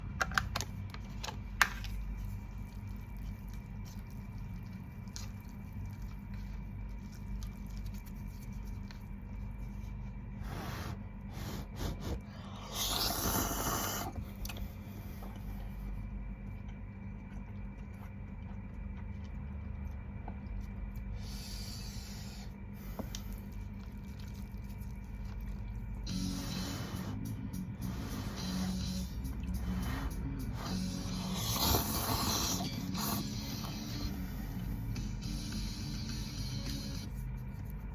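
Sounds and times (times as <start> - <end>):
steady low hum: 0.0 - 37.9
quiet eating sounds: 0.4 - 37.9.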